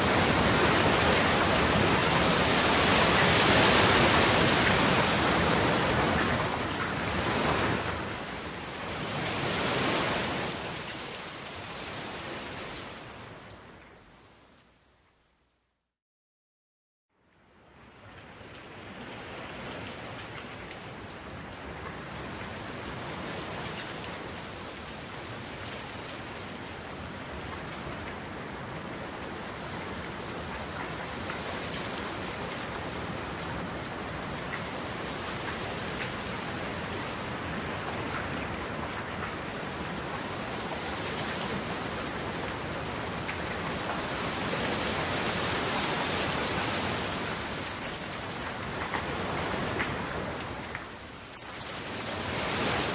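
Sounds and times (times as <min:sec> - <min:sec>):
steady rain falling: 0:00.0 - 0:15.7, 0:17.2 - 0:52.9.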